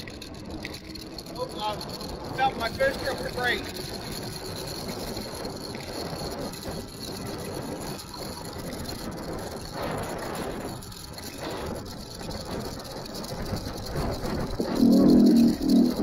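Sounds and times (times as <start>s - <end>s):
rushing wind and road noise: 0.0s - 14.8s
wind buffeting microphone: 0.0s - 16.0s.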